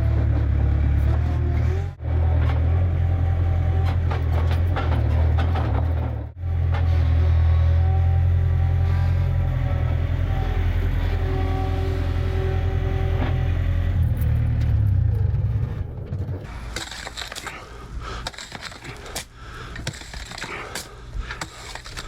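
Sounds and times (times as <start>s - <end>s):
vehicle engine deep rumble: 0.0s - 18.2s.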